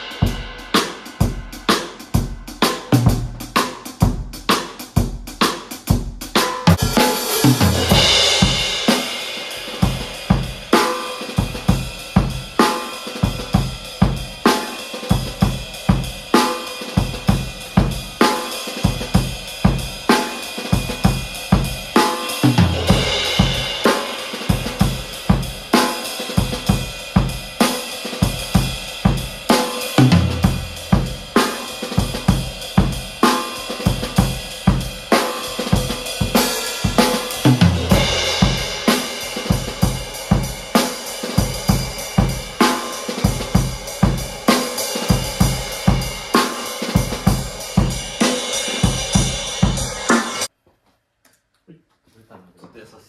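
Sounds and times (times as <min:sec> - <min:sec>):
kick and snare beat: 0:00.0 - 0:50.5.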